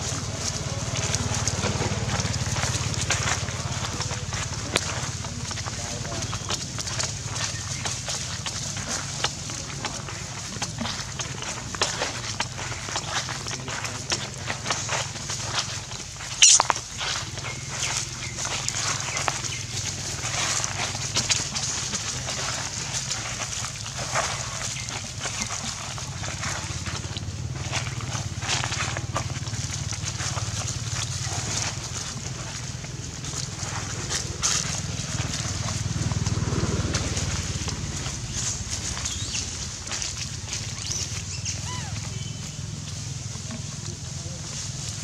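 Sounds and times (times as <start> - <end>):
dry leaves crackling and rustling: 0.0 - 45.0.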